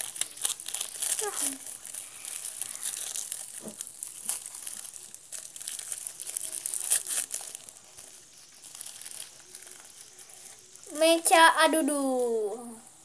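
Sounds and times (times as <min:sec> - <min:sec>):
wrappers tearing and crinkling: 0:00.0 - 0:11.0.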